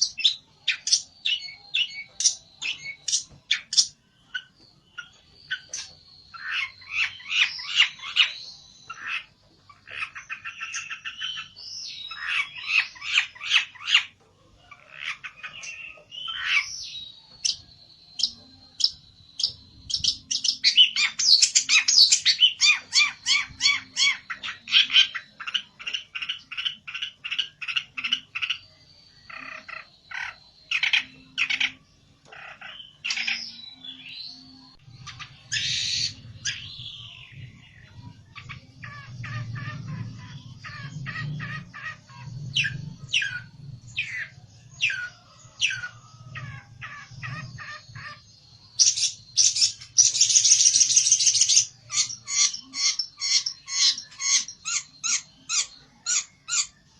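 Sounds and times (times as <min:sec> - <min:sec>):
bird harsh chattering: 0:00.0 - 0:14.1, 0:17.4 - 0:33.6, 0:35.0 - 0:56.8.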